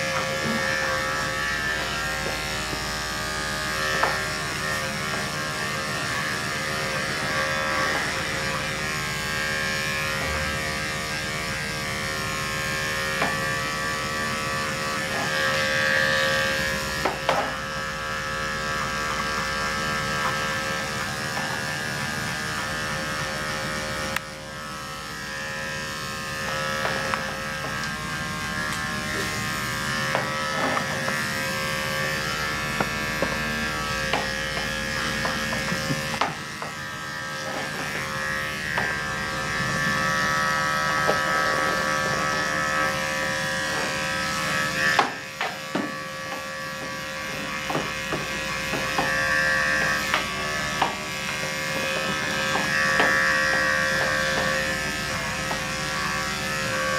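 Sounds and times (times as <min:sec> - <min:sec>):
electric clippers buzzing: 0:00.0 - 0:56.9.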